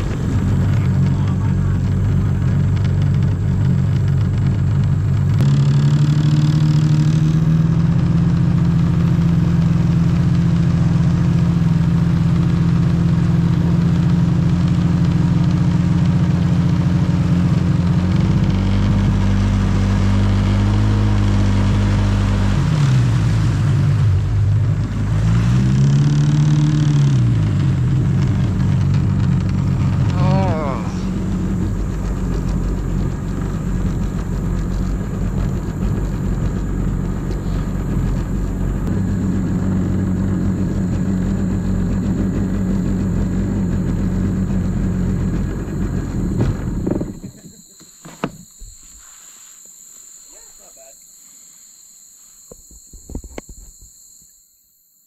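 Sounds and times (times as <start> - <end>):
jet ski engine running: 0.0 - 50.6.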